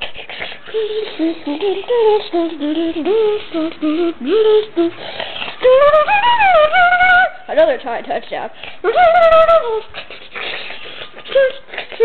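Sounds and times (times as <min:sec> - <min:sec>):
high voice humming: 0:00.0 - 0:07.5, 0:08.8 - 0:12.0.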